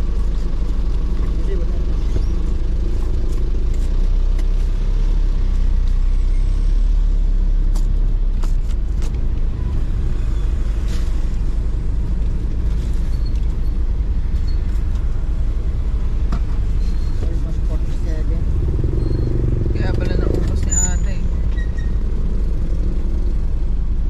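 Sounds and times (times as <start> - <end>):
motor vehicle low rumble: 0.0 - 24.0.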